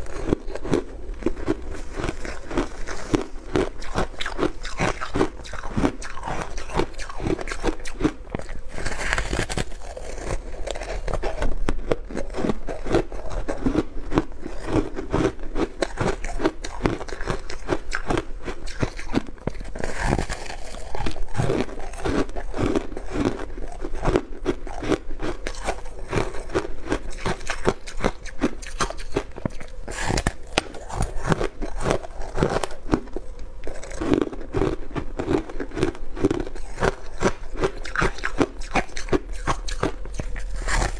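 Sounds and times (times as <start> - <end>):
chewing crunchy frost ice: 0.0 - 40.9.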